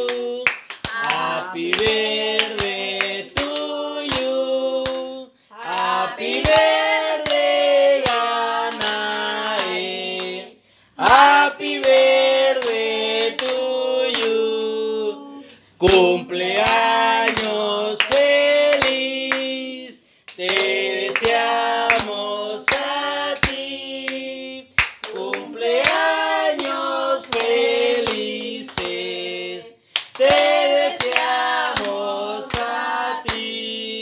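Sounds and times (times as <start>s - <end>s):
hand-clapping on beat: 0.0s - 14.7s, 15.5s - 33.8s
group singing a birthday song: 0.0s - 34.0s.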